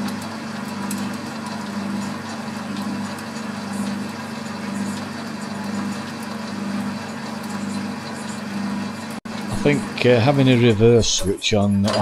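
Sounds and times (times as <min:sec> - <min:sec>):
lathe running with a hum: 0:00.0 - 0:11.0.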